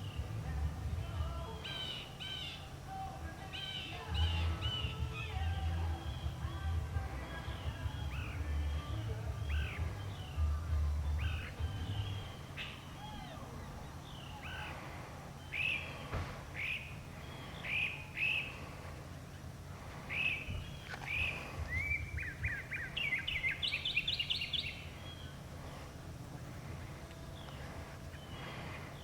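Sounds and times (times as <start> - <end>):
mockingbird singing: 1.0 - 29.0.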